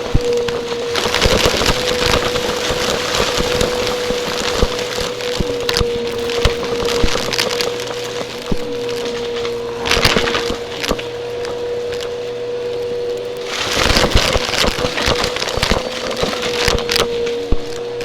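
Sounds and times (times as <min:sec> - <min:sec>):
debris crackling and rattling: 0:00.0 - 0:18.0
vacuum cleaner motor whine: 0:00.0 - 0:18.0.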